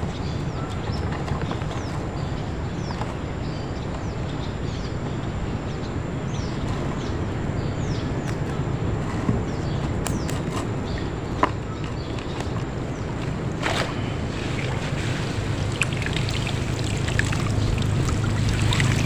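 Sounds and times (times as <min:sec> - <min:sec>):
bird chirping: 0:00.0 - 0:19.0
wind rumble on microphone: 0:00.0 - 0:19.0.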